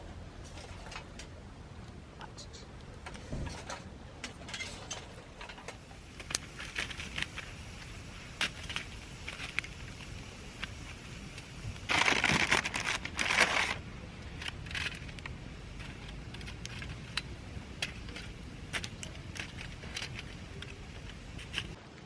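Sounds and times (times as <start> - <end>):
crunching and crinkling: 3.4 - 21.8.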